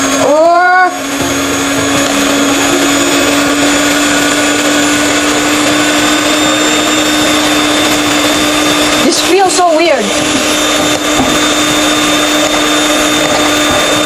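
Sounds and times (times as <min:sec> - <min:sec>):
electric hand mixer whisking: 0:00.0 - 0:14.0.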